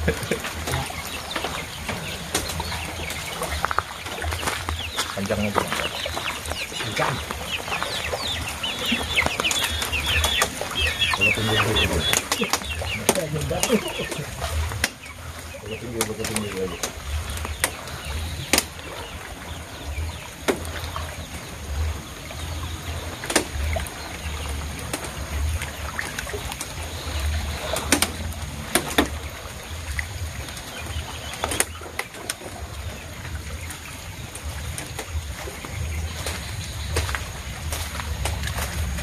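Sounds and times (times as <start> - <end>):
low uneven rumble: 0.0 - 39.0
water sloshing and splashing: 0.0 - 39.0.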